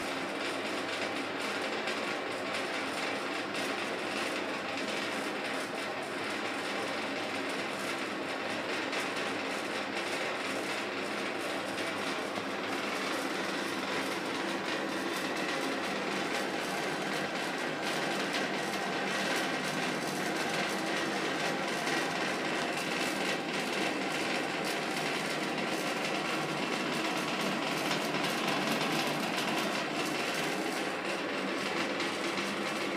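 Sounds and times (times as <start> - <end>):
ventilation fan whirring and rattling: 0.0 - 32.9.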